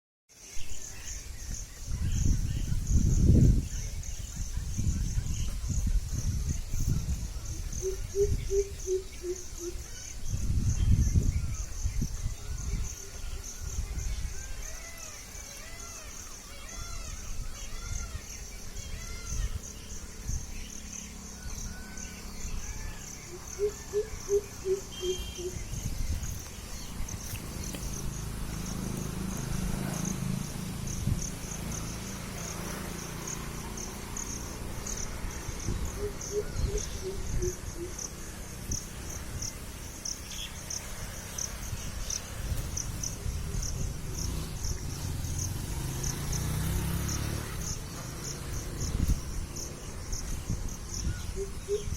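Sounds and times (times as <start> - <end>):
crickets chirping: 0.3 - 51.9.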